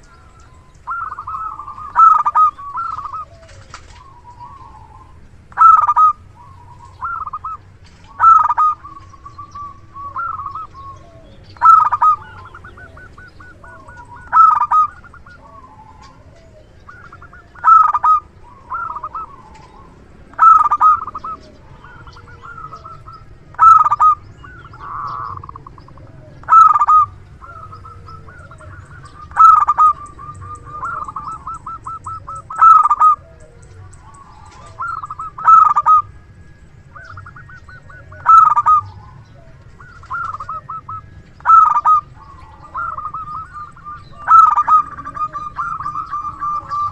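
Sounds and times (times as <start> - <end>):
dove trilled cooing: 0.0 - 46.9.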